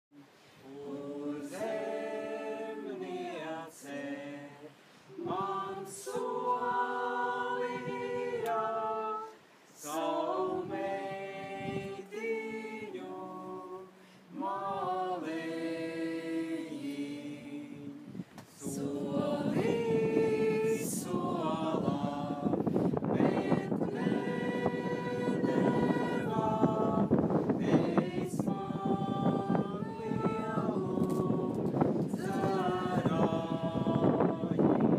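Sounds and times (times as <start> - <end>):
choir singing a cappella: 0.6 - 34.9.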